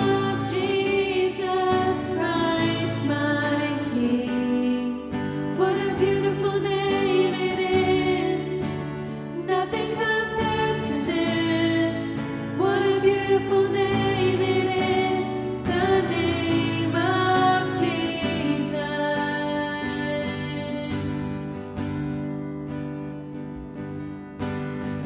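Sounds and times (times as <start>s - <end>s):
slow worship song by band: 0.0s - 22.2s.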